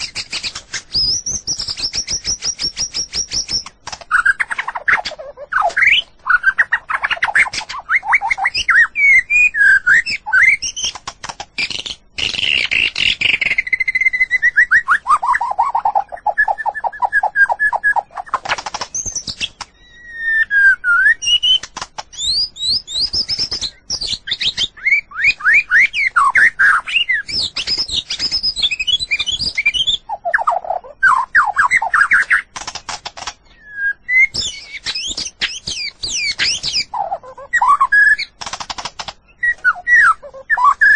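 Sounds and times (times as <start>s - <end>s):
songbird singing varied song: 0.0s - 38.4s, 39.0s - 40.9s.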